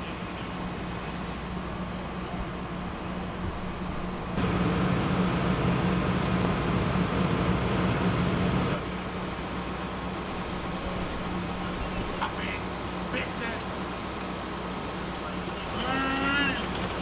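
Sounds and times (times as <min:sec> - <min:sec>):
constant low hum: 0:00.0 - 0:17.0
vehicle engines idling: 0:00.0 - 0:17.0.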